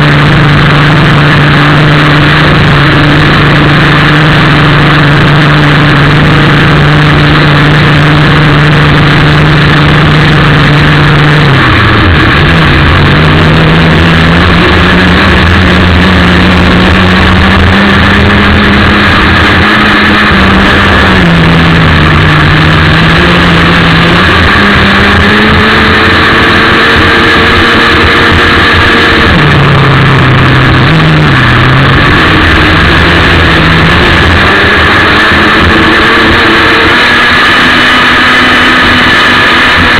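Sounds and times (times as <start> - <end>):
model boat engine running: 0.0 - 36.8.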